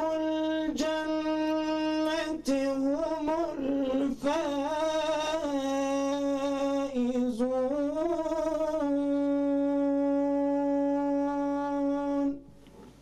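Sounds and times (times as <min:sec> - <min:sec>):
man chanting: 0:00.0 - 0:12.5.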